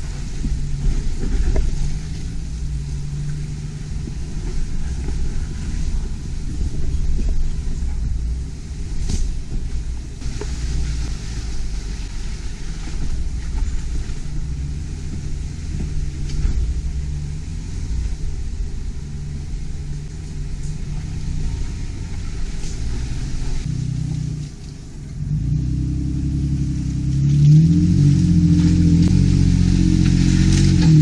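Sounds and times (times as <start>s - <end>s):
off-road vehicle engine: 0.0s - 31.0s.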